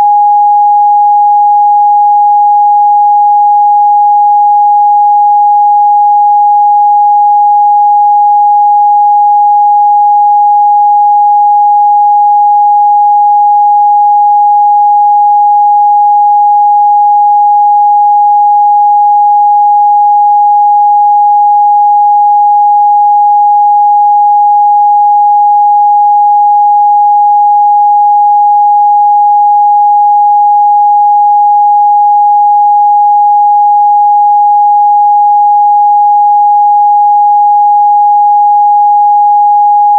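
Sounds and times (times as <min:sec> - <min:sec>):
pure sine test tone: 0:00.0 - 0:39.9.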